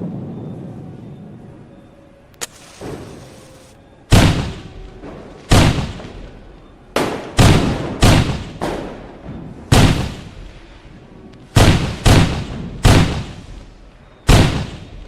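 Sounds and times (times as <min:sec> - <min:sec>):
fireworks exploding: 0:02.4 - 0:15.0.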